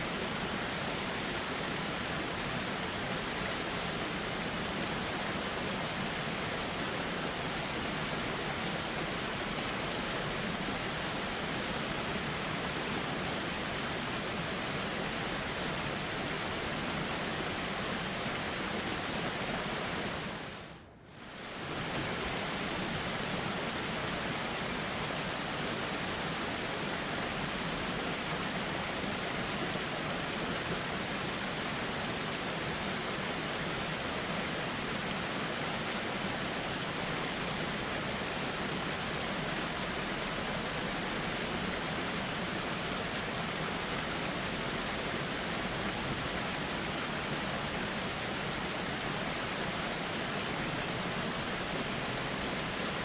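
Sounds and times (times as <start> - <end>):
river flowing: 0.0 - 53.0.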